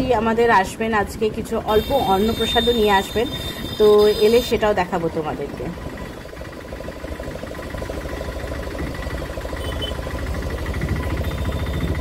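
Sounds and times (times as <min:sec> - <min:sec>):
auto-rickshaw engine running: 0:00.0 - 0:12.0.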